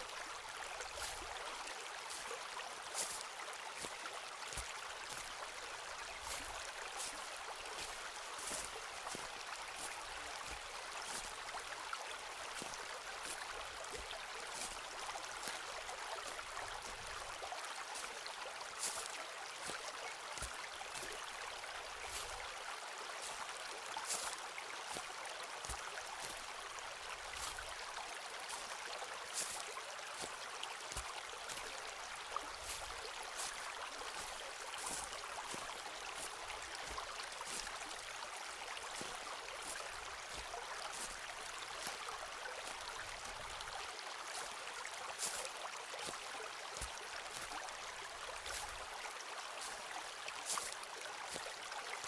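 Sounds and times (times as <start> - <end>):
footsteps crunching leaves and twigs: 0.8 - 11.7, 12.5 - 17.2, 17.9 - 22.5, 23.2 - 27.8, 29.3 - 46.2, 46.8 - 48.9, 49.6 - 51.5.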